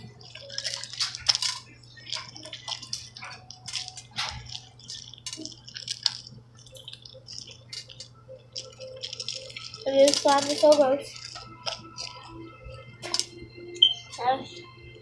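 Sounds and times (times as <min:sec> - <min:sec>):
slime squelching by hand: 0:00.0 - 0:13.4.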